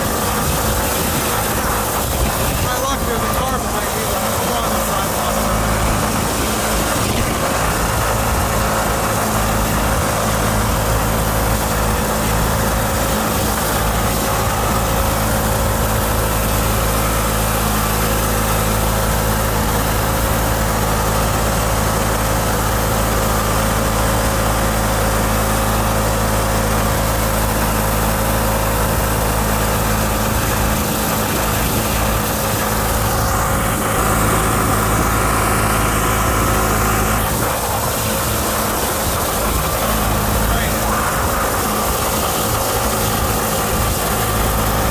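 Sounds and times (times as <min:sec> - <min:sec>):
riding lawn tractor engine droning: 0:00.0 - 0:44.9.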